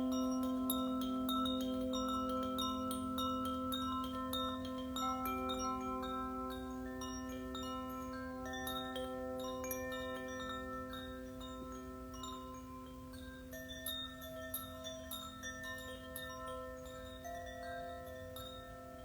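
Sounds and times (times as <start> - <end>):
metal chimes ringing: 0.0 - 19.0.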